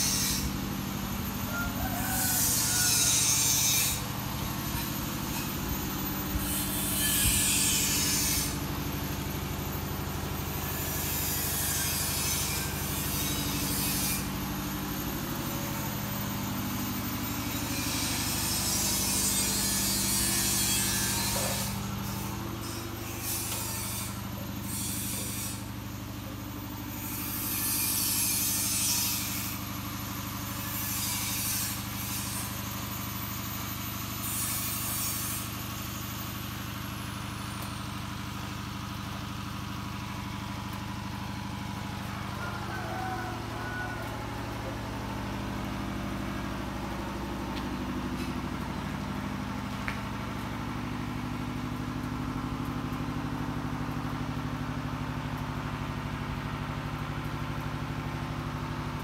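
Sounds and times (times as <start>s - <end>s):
engine idling hum: 0.0s - 27.5s, 28.5s - 59.0s.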